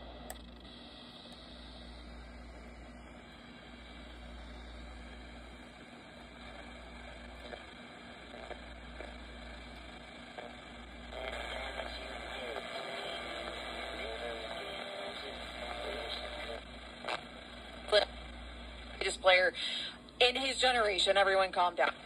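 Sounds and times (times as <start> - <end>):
low steady hum: 0.0 - 22.0
radio static and hiss: 0.0 - 22.0
weak radio station: 0.0 - 22.0.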